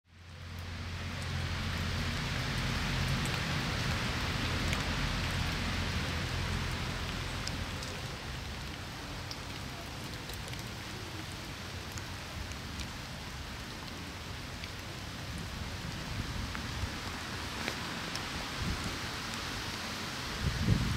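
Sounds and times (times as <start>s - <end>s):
small drips: 0.1s - 20.0s
steady rain falling: 0.1s - 20.9s.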